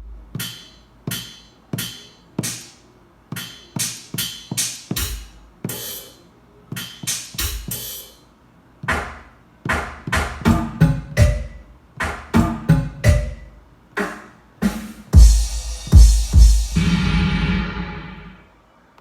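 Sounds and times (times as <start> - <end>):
drum machine kick and snare hits: 0.0 - 6.1, 6.8 - 8.0, 8.8 - 18.3.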